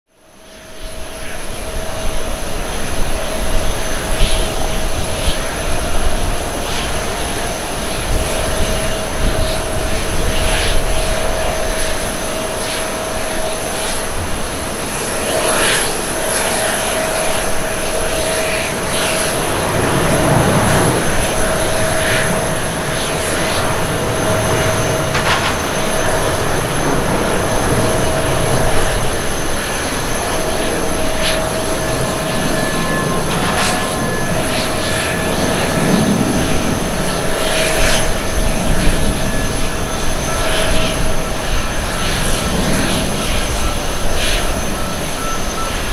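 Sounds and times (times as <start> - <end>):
high engine whine: 0.1 - 45.9
jet engine roar: 0.1 - 45.9.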